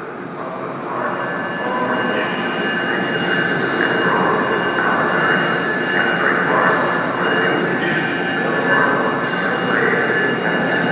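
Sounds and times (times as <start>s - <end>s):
high steady whine: 0.0s - 10.9s.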